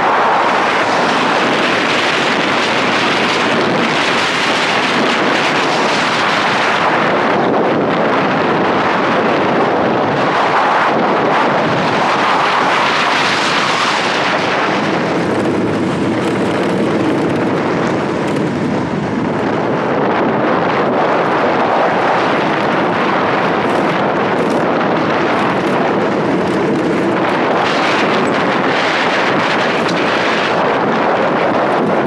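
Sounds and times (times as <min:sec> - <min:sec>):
tyre and road noise: 0:00.0 - 0:32.0
wind rushing over microphone: 0:00.0 - 0:32.0.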